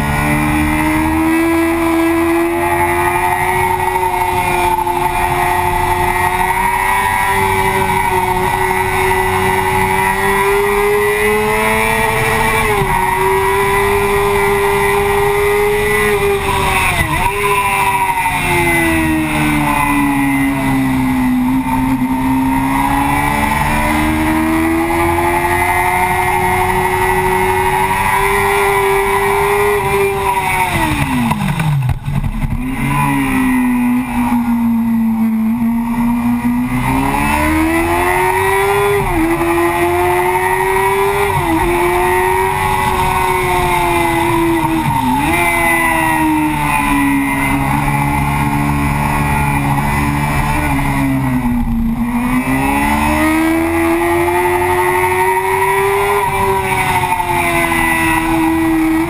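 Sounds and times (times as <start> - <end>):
motorcycle engine revving high: 0.0 - 59.0.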